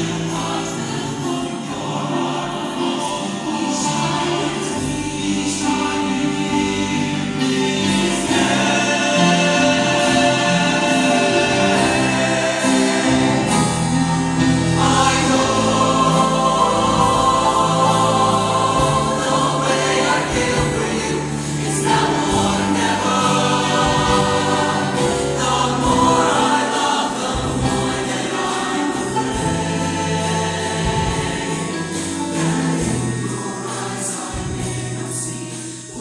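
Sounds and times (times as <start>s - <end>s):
choir singing in harmony: 0.0s - 36.0s.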